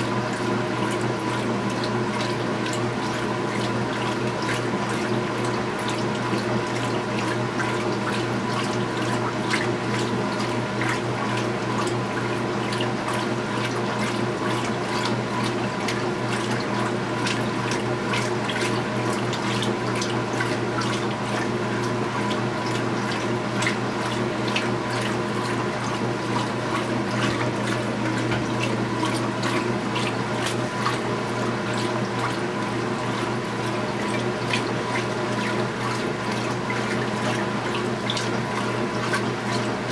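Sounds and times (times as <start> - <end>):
water rushing into washing machine: 0.0 - 39.9.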